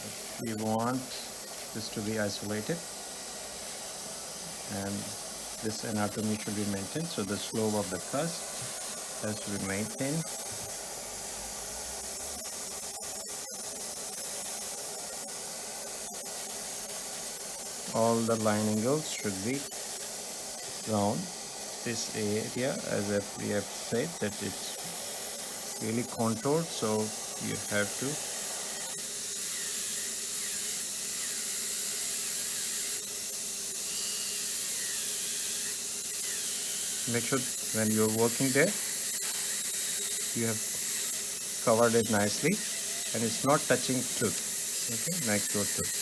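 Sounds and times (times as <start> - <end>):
dental drill hissing: 0.0 - 46.0.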